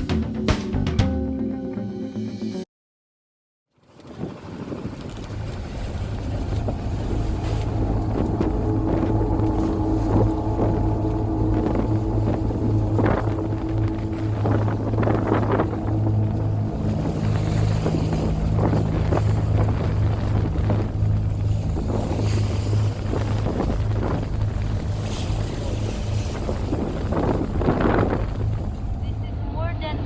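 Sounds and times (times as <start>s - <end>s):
waves splashing against hull: 3.7s - 30.0s
boat engine droning: 3.9s - 30.0s
wind on microphone: 4.0s - 30.0s.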